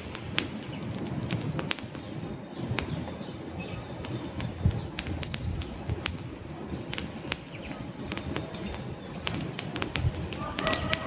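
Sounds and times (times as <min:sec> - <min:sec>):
burning logs popping: 0:00.0 - 0:11.0
flames rushing: 0:00.0 - 0:11.0.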